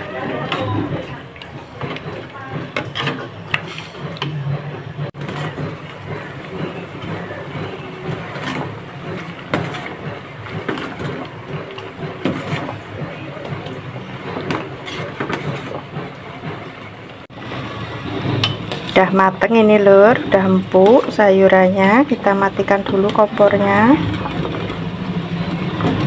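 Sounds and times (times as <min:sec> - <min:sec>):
pot of water boiling: 0:00.0 - 0:26.0.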